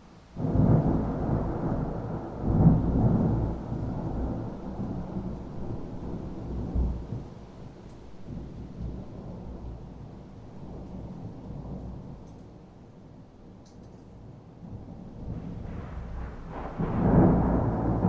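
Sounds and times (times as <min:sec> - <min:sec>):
thunder rumbling: 0:00.4 - 0:12.2, 0:14.6 - 0:18.0.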